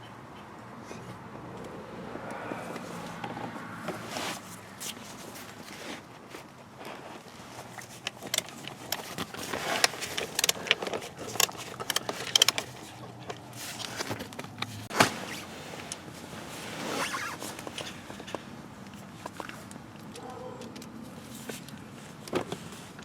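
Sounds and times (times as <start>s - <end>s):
car parts clicking and rattling: 0.3s - 23.0s.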